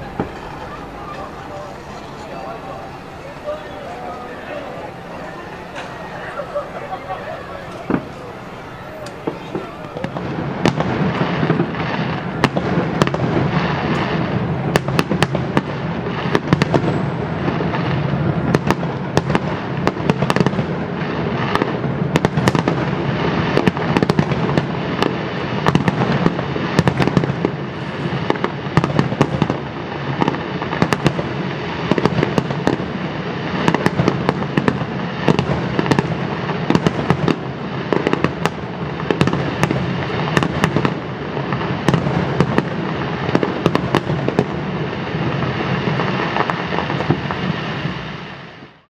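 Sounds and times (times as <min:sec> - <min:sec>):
fireworks bangs and crackles: 0:00.0 - 0:48.9
rumbling fireworks bursts: 0:00.0 - 0:48.9.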